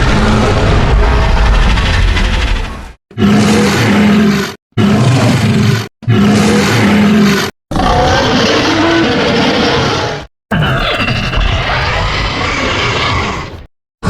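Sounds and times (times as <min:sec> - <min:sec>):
harsh monster roar: 0:00.0 - 0:13.7.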